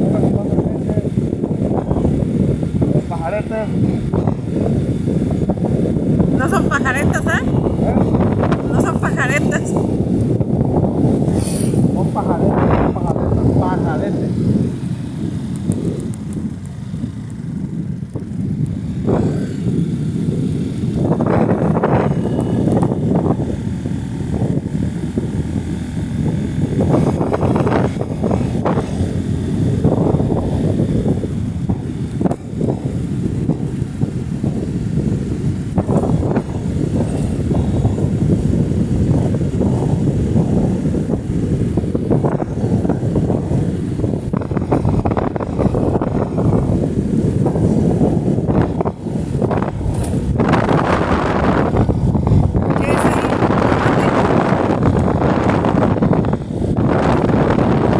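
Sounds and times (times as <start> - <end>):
motorcycle engine at speed: 0.0 - 57.9
wind rushing over microphone: 0.0 - 57.9.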